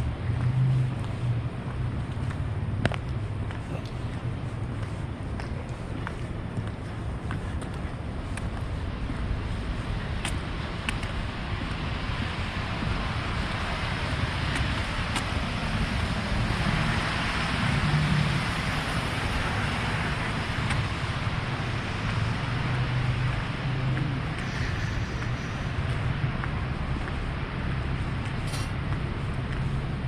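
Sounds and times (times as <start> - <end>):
motor vehicles passing: 0.0 - 30.0.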